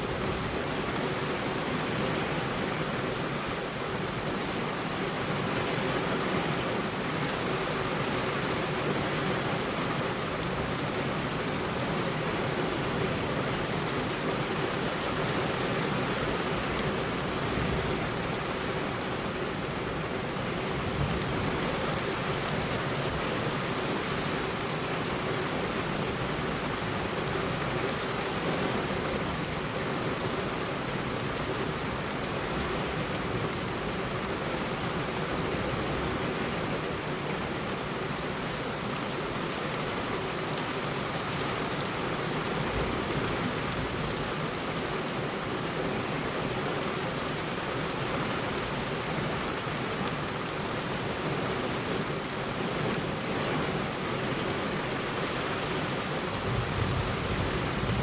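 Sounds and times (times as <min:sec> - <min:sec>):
heavy rain on a road: 0:00.0 - 0:58.0.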